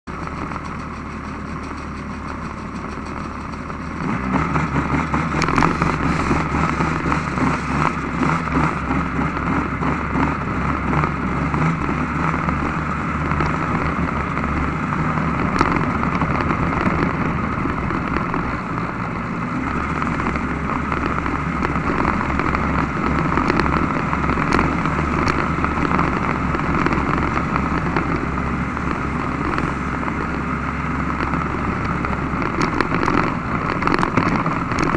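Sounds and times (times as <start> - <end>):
snowmobile engine revving: 0.4 - 33.6.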